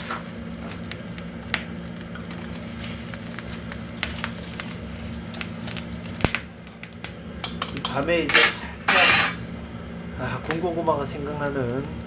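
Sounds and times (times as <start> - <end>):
firewood crackling in a stove: 0.0 - 12.0
steady low hum: 0.0 - 12.0.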